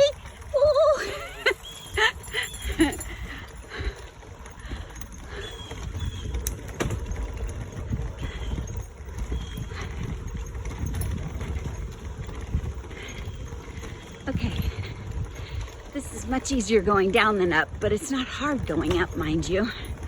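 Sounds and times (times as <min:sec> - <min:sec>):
bicycle tyres rumbling on boardwalk: 0:00.0 - 0:20.0
wheels knocking on boards: 0:00.0 - 0:20.0.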